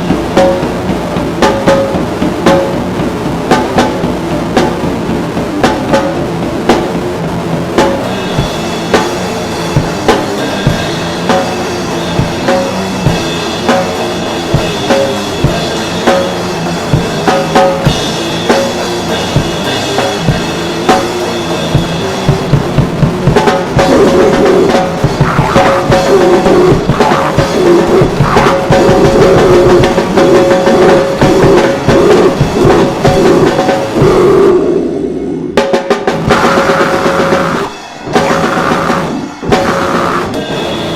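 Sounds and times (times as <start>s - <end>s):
band playing instrumental music: 0.0s - 34.8s, 35.6s - 40.9s
drum kit beat: 0.0s - 34.8s, 35.4s - 40.9s.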